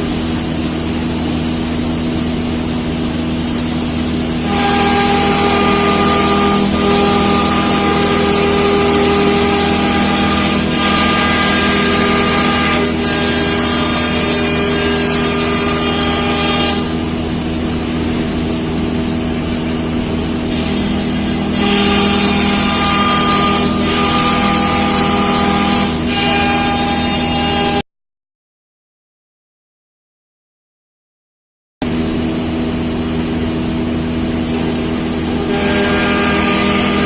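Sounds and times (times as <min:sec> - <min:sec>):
cnc router machine whine: 0:00.0 - 0:27.8, 0:31.8 - 0:37.0.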